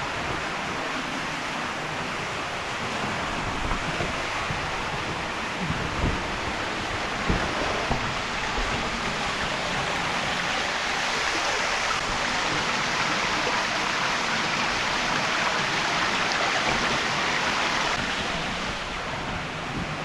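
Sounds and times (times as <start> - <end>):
waterfall splashing: 0.0 - 20.0.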